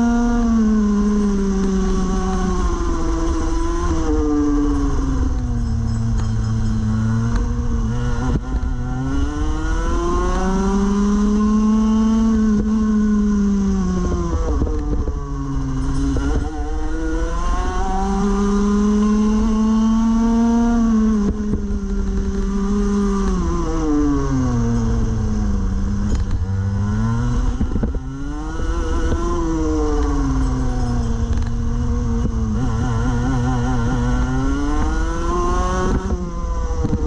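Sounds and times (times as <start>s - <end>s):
kart engine revving: 0.0s - 37.0s.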